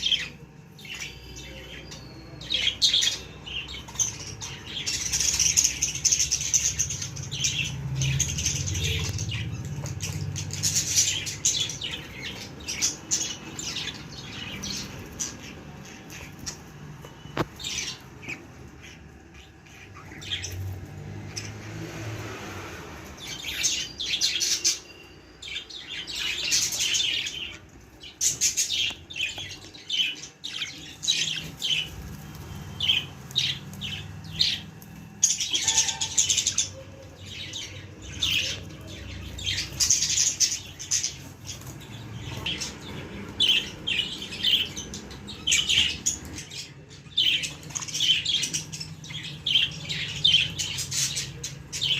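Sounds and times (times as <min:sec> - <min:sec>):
budgies chirping: 0:00.0 - 0:51.9.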